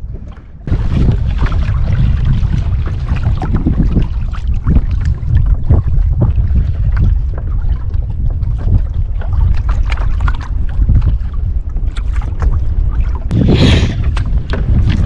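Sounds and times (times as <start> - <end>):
water splashing against kayak: 0.0 - 15.0
wind buffeting microphone: 0.0 - 15.0.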